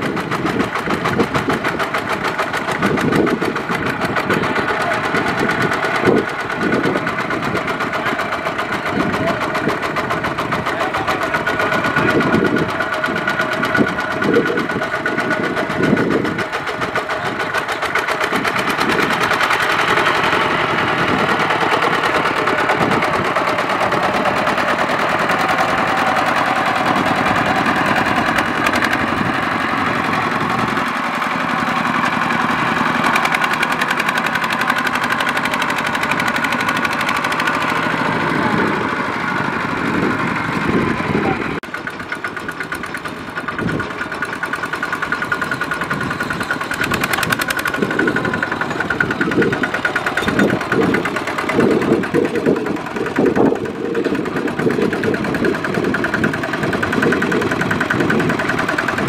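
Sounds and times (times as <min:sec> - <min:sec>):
diesel engine knocking under load: 0:00.0 - 0:59.0.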